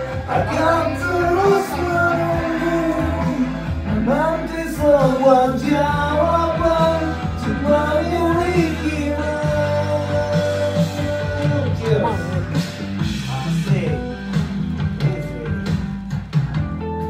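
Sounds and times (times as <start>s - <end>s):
man singing into a microphone: 0.0s - 15.8s
music backing track: 0.0s - 17.0s.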